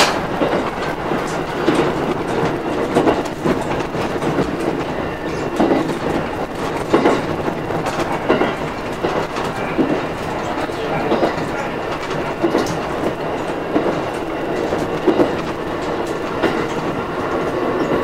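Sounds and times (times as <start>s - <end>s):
train wheels running on rails: 0.0s - 18.0s.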